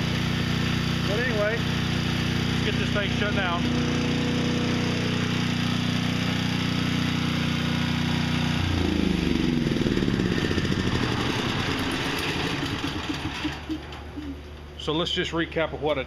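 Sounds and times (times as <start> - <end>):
engine sputtering: 0.0 - 15.7
generator engine running: 0.0 - 16.0.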